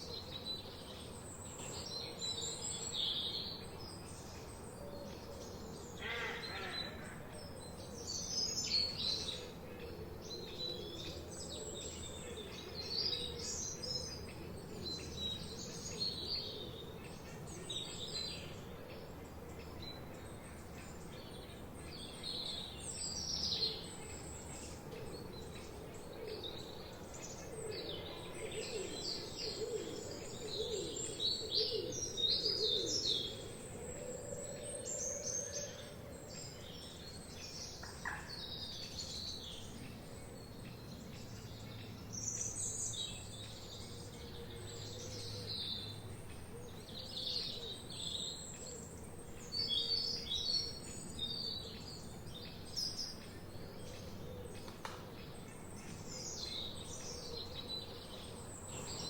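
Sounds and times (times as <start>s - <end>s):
forest birds chirping: 0.0s - 59.0s.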